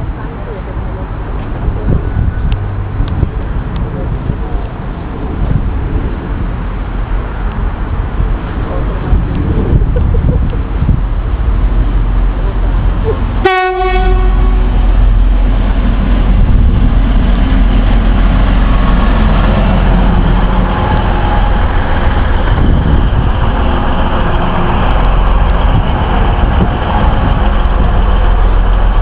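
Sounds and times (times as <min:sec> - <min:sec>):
diesel train engines rumbling: 0:00.0 - 0:29.0
wheel-on-rail noise: 0:00.0 - 0:29.0.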